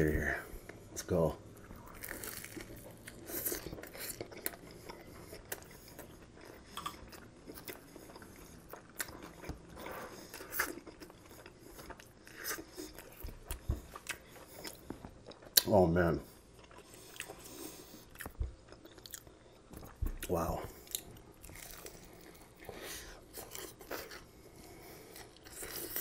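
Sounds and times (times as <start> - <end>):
close chewing with smacks: 0.6 - 26.0.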